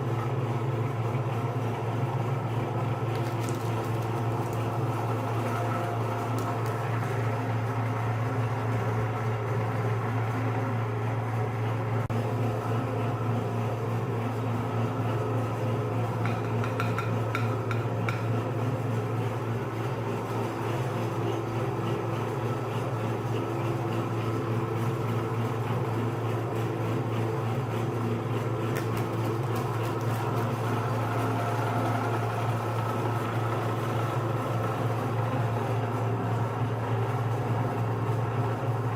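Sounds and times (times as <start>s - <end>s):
meat grinder motor hum: 0.0s - 38.9s.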